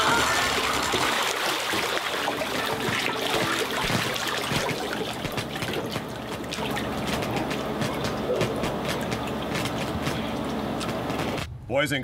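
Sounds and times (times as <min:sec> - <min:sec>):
hot tub water splashing: 0:00.0 - 0:11.4.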